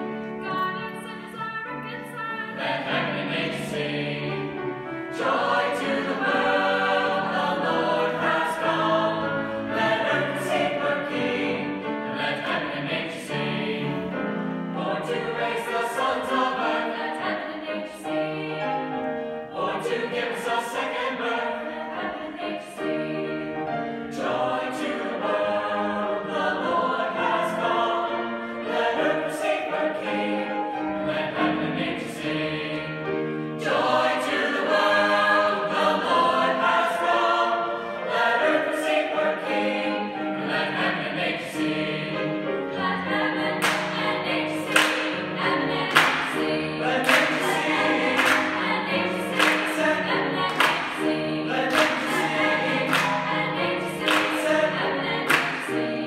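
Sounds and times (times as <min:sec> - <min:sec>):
choir singing with accompaniment: 0:00.0 - 0:56.0.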